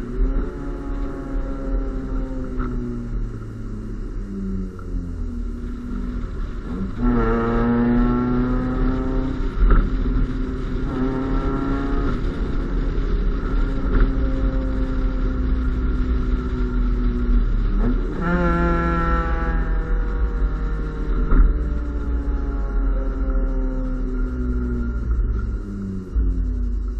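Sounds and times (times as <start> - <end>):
car engine through exhaust: 0.0 - 26.9.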